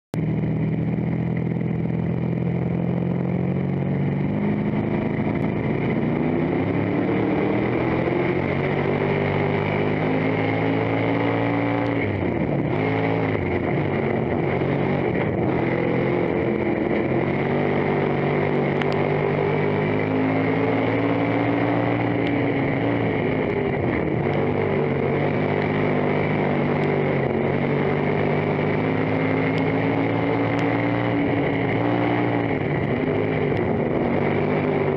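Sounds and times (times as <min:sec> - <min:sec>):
race car engine revving: 0:00.4 - 0:34.9.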